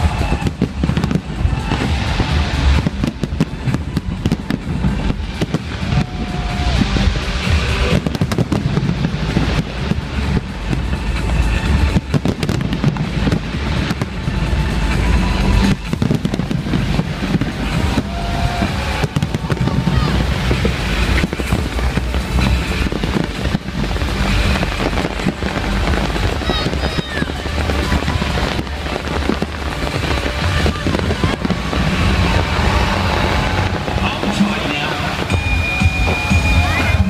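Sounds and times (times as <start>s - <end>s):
fireworks bangs: 0.0s - 37.0s
low rumble: 0.0s - 37.0s
music playing: 0.0s - 37.0s.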